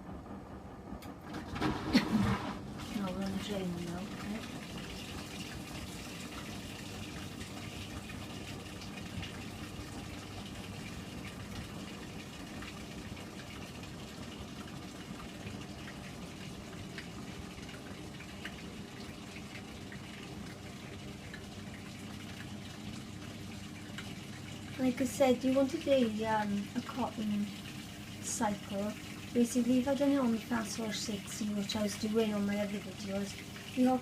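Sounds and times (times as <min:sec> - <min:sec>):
washing machine drain pump humming: 0:00.0 - 0:34.0.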